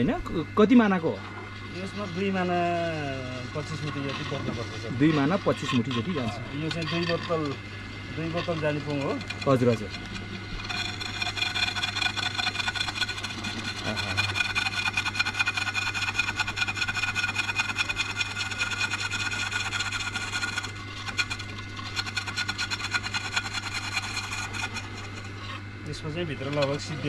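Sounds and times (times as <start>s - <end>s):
low hum: 0.0s - 27.0s
cutting tool scraping wood: 1.7s - 27.0s.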